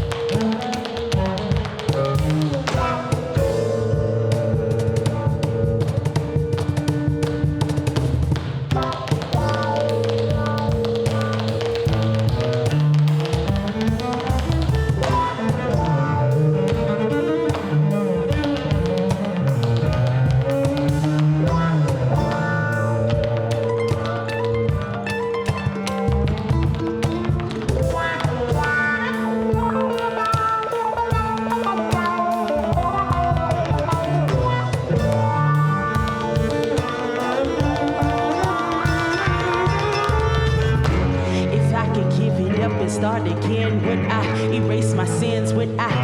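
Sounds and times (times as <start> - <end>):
drums and percussion: 0.0 - 41.9
bowed cello: 0.0 - 46.0
live band playing: 0.0 - 46.0
plucked mandolin: 0.0 - 46.0
strummed guitar: 0.0 - 46.0.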